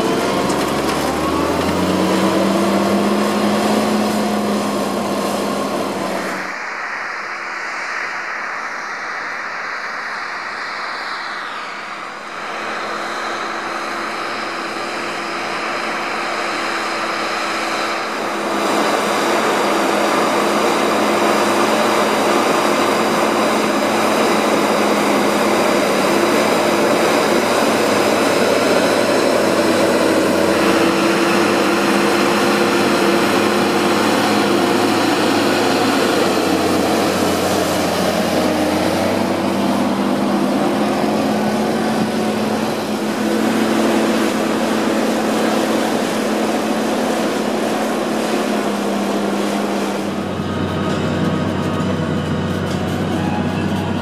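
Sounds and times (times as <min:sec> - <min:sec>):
tractor diesel engine under load: 0:00.0 - 0:06.5, 0:12.1 - 0:54.0.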